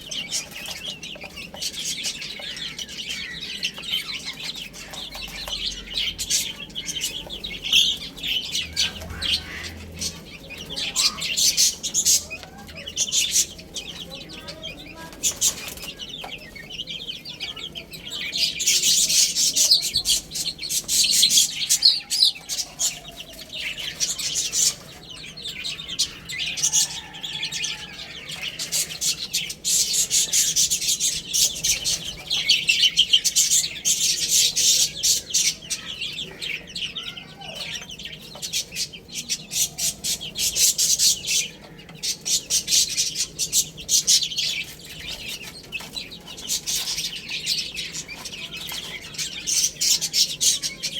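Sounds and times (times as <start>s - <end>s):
baby chicks peeping: 0.0s - 50.9s.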